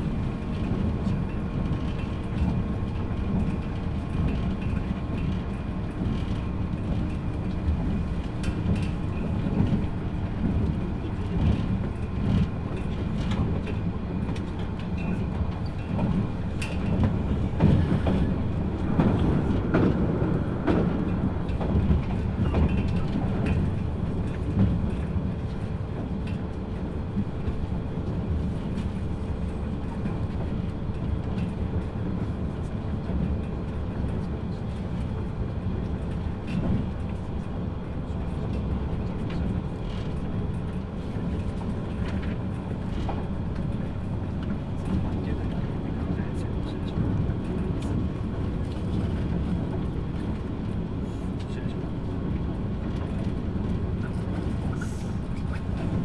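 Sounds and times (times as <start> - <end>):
train running rumble: 0.0 - 56.0
wheels clicking over rail joints: 0.0 - 56.0.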